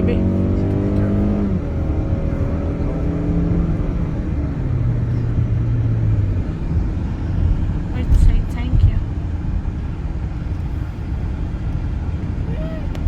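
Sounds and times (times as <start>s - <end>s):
car engine hum: 0.0s - 13.0s
road rumble: 0.0s - 13.0s.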